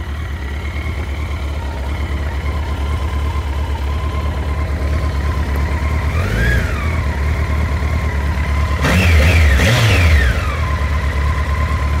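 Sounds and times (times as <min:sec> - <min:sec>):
motorcycle engine idling: 0:00.0 - 0:12.0
motorcycle engine revving: 0:00.0 - 0:12.0.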